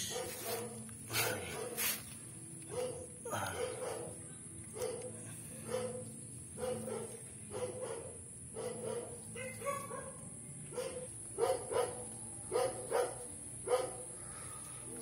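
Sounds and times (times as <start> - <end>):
dog barking: 0.0 - 2.0, 2.7 - 14.2.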